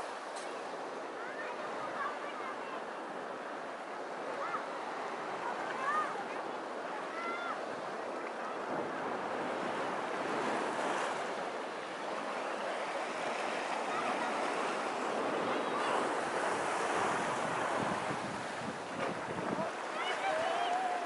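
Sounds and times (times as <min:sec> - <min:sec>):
waves washing onto sand: 0:00.0 - 0:21.0.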